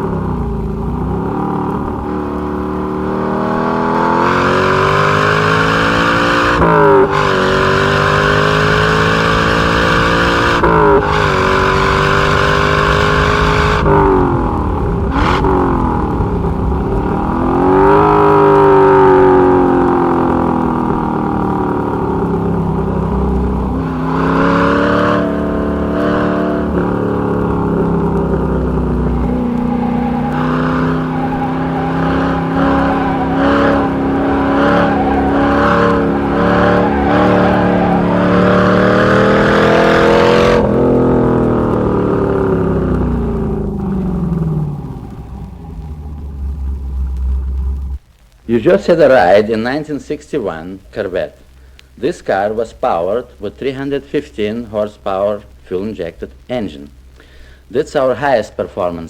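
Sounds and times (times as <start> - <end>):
car engine revving through gears: 0.0 - 48.2.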